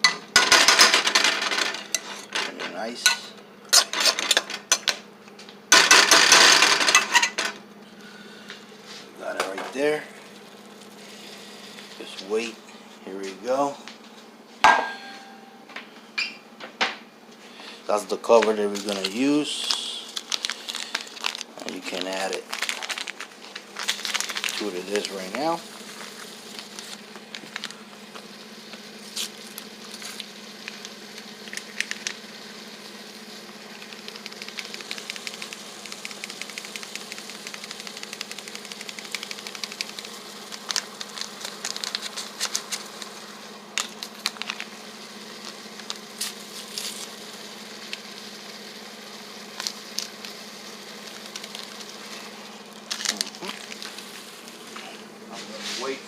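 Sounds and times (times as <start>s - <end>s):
low steady hum: 0.0s - 56.0s
food frying with crackles: 3.7s - 9.0s, 10.1s - 12.5s, 17.5s - 56.0s.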